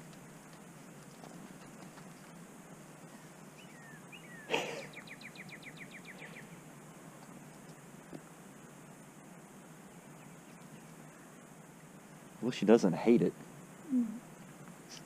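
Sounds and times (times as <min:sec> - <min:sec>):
outdoor background noise: 0:00.0 - 0:15.0
songbird trill: 0:00.0 - 0:15.0.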